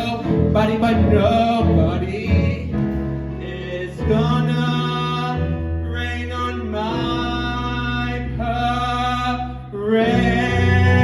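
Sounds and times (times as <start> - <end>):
man singing with vibrato: 0.0 - 11.0
show tune backing track: 0.0 - 11.0.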